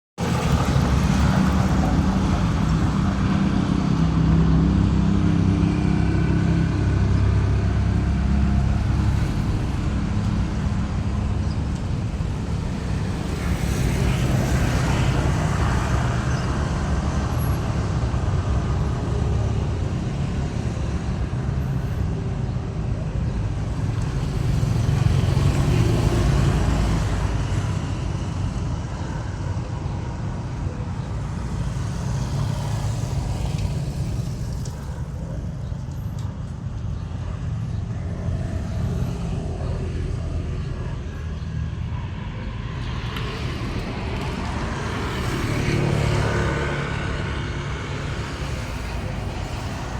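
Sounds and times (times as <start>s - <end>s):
low rumble of road traffic: 0.2s - 49.9s.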